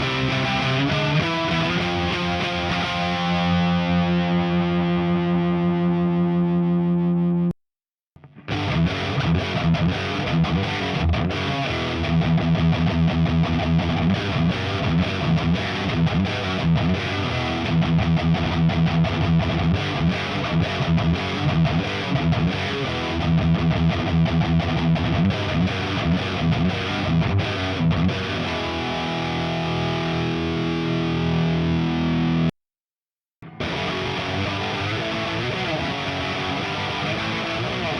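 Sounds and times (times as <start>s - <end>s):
distorted electric guitar riff: 0.0s - 7.6s, 8.2s - 32.6s, 33.4s - 37.9s.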